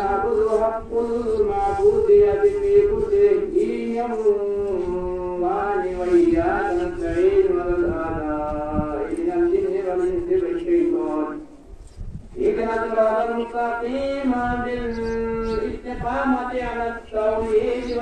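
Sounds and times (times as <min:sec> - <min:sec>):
man chanting a religious recitation: 0:00.0 - 0:11.7, 0:12.3 - 0:18.0.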